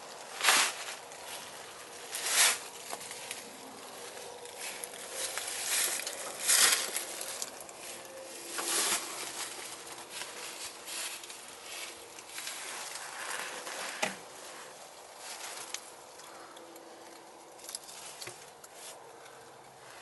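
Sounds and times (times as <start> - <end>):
dry leaves crunching: 0.0 - 16.1.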